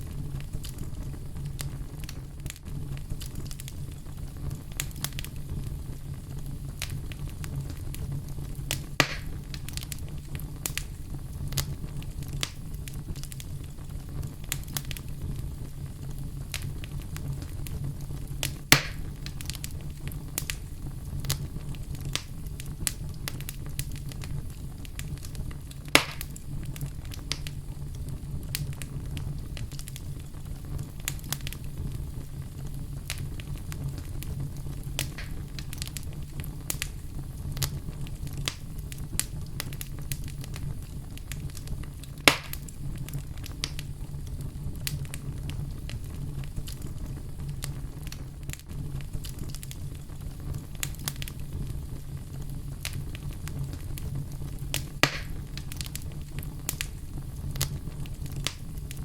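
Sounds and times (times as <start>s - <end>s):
loud sharp pops of fire: 0.0s - 59.0s
wood fire crackling: 0.0s - 59.0s.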